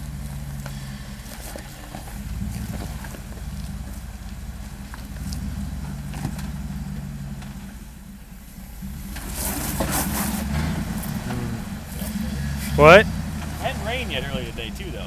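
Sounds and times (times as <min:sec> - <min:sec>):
off-road engine at low revs: 0:00.0 - 0:15.0.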